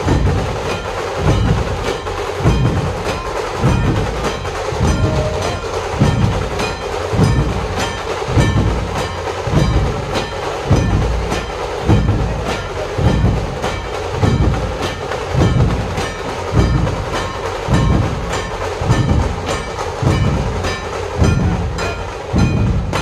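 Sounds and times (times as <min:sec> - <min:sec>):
deep drum beats: 0:00.0 - 0:23.0.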